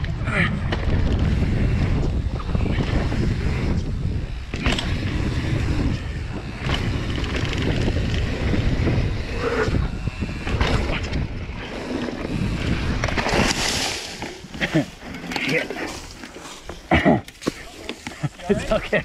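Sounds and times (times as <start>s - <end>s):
wind rumbling on microphone: 0.0s - 17.0s
bike rattles and knocks: 0.0s - 19.0s
bike tyres on dirt: 0.0s - 19.0s.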